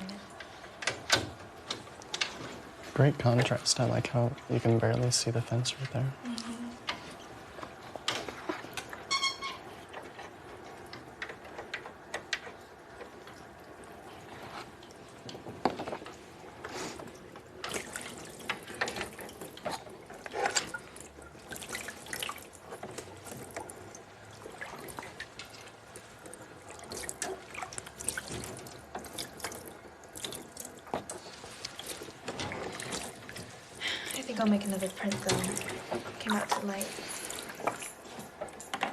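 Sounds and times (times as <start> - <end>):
water drips and splashes: 0.0 - 38.9
water trickling in sink: 0.0 - 38.9.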